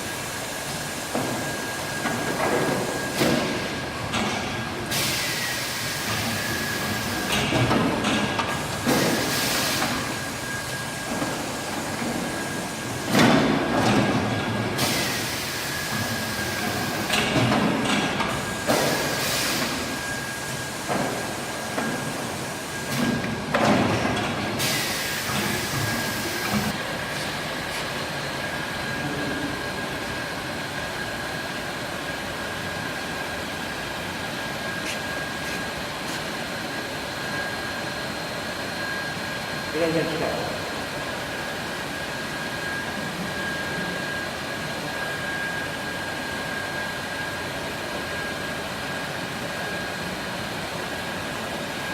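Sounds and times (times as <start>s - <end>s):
steady machine whine: 0.0s - 51.9s.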